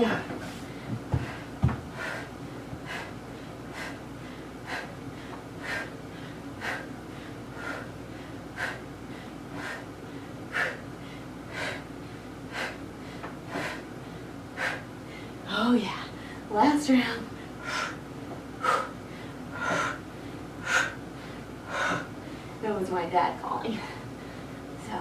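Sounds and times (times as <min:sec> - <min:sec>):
woman breathing hard: 0:00.4 - 0:15.5, 0:17.3 - 0:22.6, 0:23.7 - 0:24.7.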